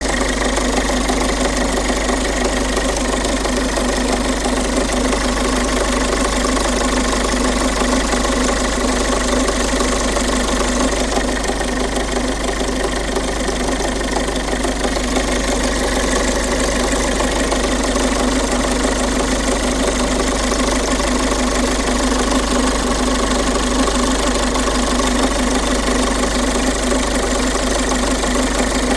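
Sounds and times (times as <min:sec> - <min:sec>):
diesel engine knocking: 0:00.0 - 0:28.9.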